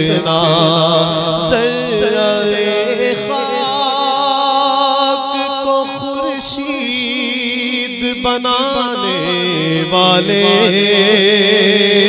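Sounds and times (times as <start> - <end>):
person singing wordless notes: 0.0 - 12.0.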